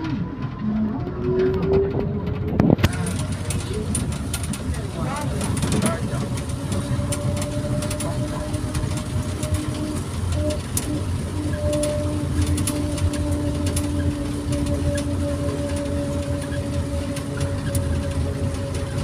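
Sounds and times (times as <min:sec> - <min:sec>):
humming motor whine: 0:00.0 - 0:19.0
train cabin low rumble: 0:00.0 - 0:19.0.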